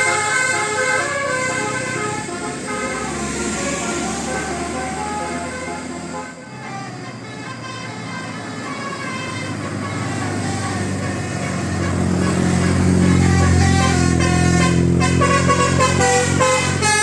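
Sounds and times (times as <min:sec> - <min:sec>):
bus engine approaching: 0:00.0 - 0:17.0.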